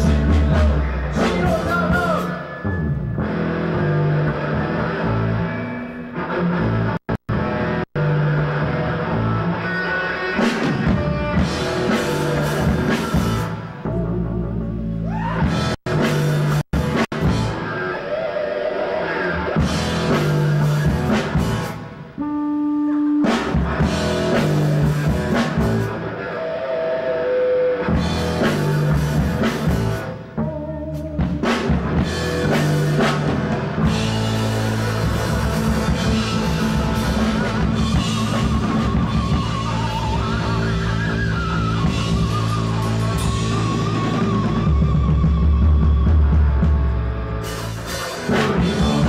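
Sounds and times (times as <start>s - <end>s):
drum kit: 0.0s - 5.5s, 6.7s - 18.0s, 19.4s - 22.4s, 23.0s - 26.2s, 27.8s - 49.0s
electric bass: 0.0s - 18.0s, 19.3s - 26.5s, 27.8s - 49.0s
electric guitar: 0.0s - 49.0s.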